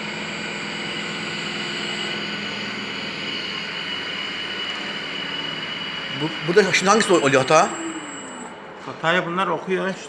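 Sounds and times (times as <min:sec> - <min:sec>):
machine hum with high whine: 0:00.0 - 0:09.0.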